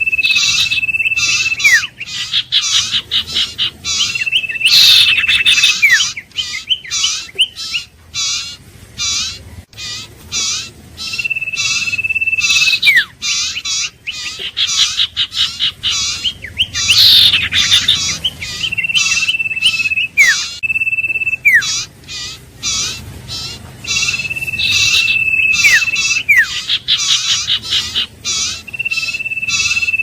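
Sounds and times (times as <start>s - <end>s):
bird chirping and whistling: 0.0s - 30.0s.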